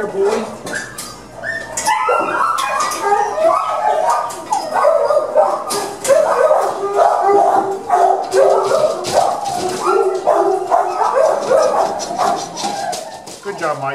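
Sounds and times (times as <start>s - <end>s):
dogs barking and whining: 0.0s - 13.7s.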